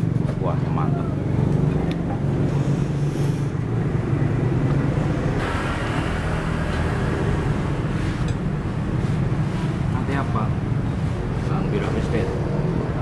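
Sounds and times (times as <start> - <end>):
vehicle engines humming: 0.0 - 13.0
hiss of passing traffic: 2.1 - 13.0.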